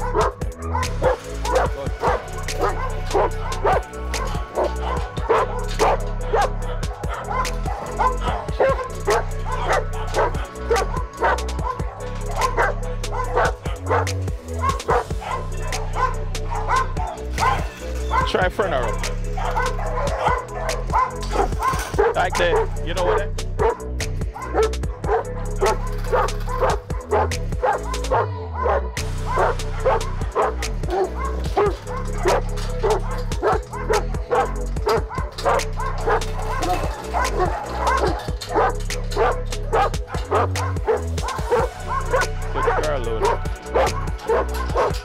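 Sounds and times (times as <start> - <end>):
background music with bass: 0.0 - 45.0
dog barking: 0.0 - 45.0.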